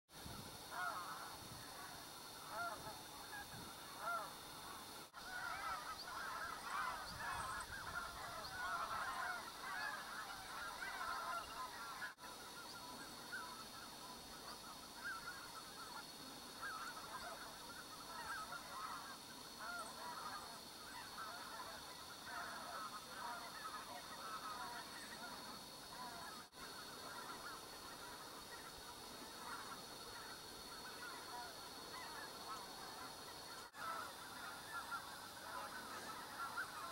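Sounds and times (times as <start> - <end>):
geese honking: 0.7 - 36.9.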